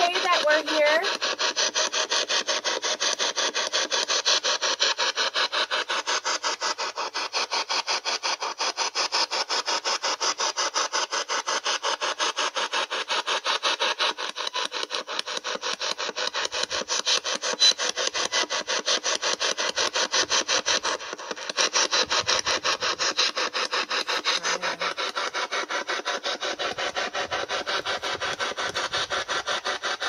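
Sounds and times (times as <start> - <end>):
rapid static hiss pulses: 0.0 - 30.0.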